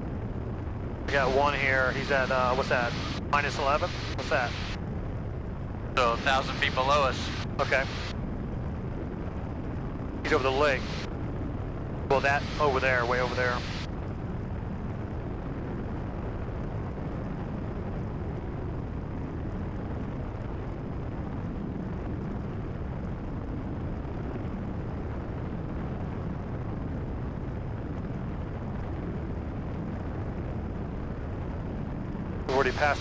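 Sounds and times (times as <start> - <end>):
aircraft engine drone in cabin: 0.0 - 33.0.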